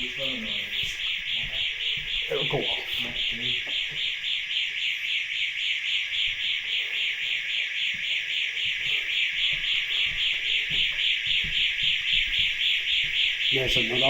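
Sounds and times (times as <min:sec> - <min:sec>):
intruder alarm pulsing tone: 0:00.0 - 0:14.0.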